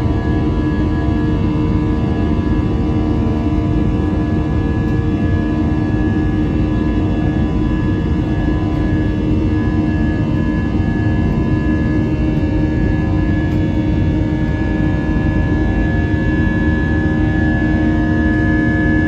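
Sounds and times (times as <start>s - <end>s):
high engine whine: 0.0s - 19.0s.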